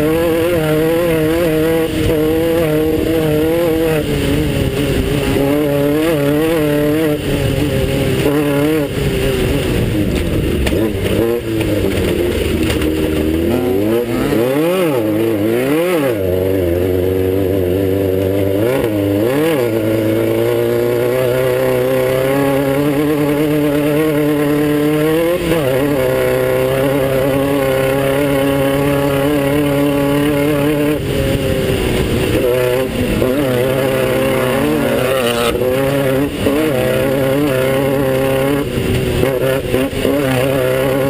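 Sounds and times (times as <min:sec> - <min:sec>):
buggy engine revving hard: 0:00.0 - 0:41.0.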